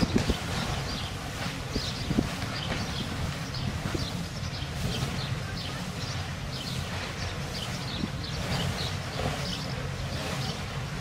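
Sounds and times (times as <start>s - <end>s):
inflation blower humming: 0.0s - 11.0s.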